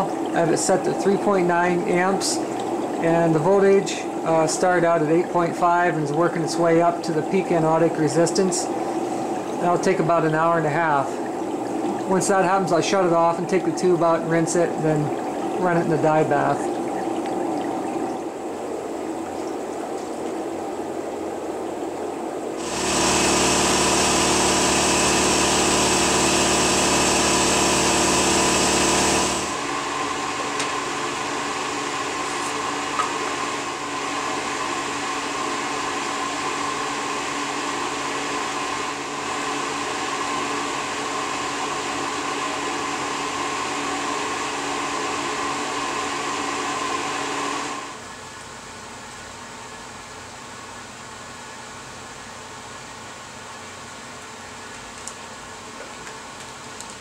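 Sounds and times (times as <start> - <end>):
machine hum: 0.0 - 48.3.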